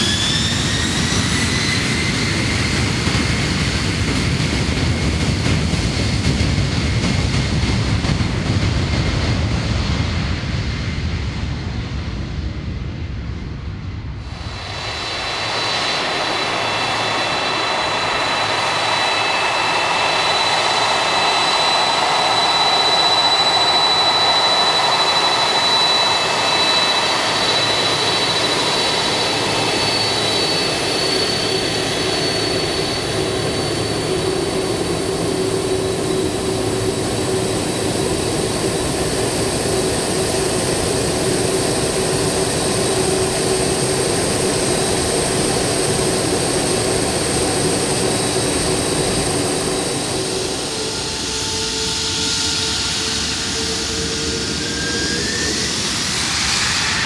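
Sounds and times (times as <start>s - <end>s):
distant jet takeoff rumble: 0.0s - 57.0s
jet engines whining: 0.0s - 57.0s.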